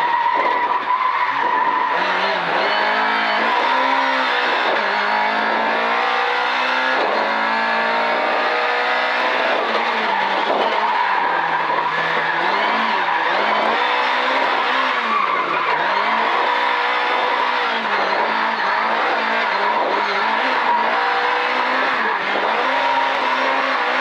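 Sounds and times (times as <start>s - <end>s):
race car engine revving: 0.0s - 24.0s
road noise: 0.0s - 24.0s.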